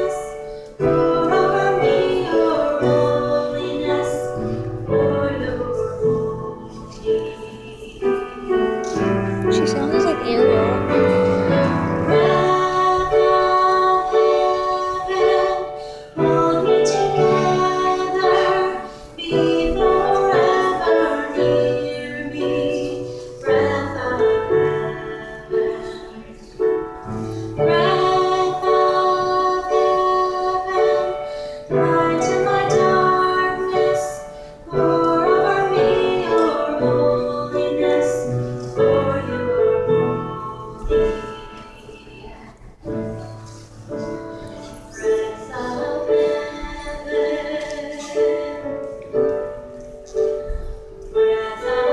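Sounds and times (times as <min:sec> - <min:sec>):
woman singing: 0:00.0 - 0:26.8, 0:27.6 - 0:43.2, 0:44.0 - 0:49.6, 0:50.4 - 0:51.9
piano accompaniment: 0:00.0 - 0:51.9.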